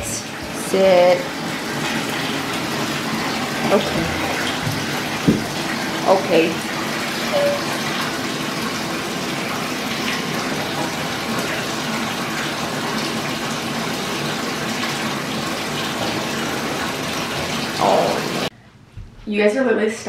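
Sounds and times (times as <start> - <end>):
tap water filling bathtub: 0.0 - 18.5.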